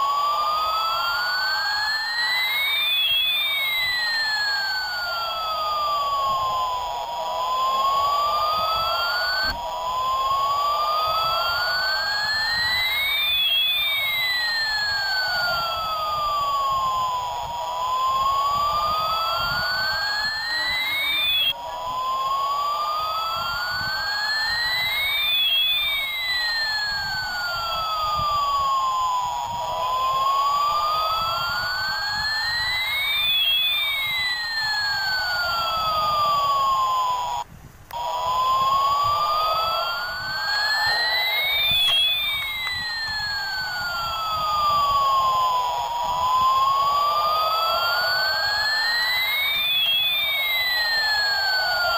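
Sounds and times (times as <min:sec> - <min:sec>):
wailing siren: 0:00.0 - 0:51.9.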